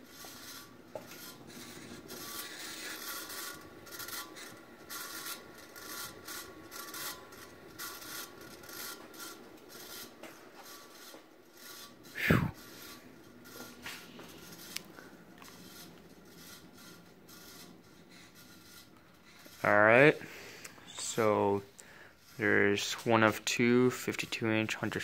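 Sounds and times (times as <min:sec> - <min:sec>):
ceiling fan motor rasping: 0:00.0 - 0:25.0.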